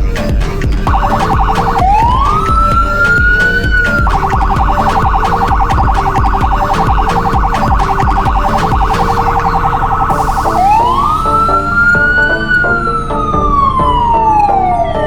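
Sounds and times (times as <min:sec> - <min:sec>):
background music with beat: 0:00.0 - 0:15.0
electronic siren warble and wail: 0:00.9 - 0:15.0.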